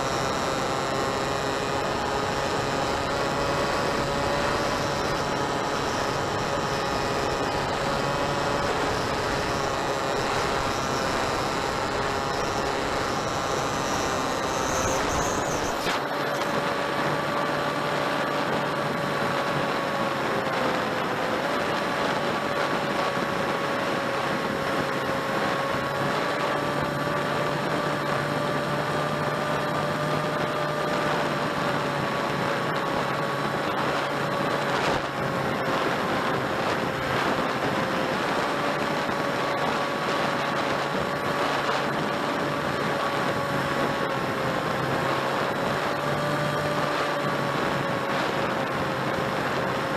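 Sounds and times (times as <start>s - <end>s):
electric motor whine: 0.0s - 49.9s.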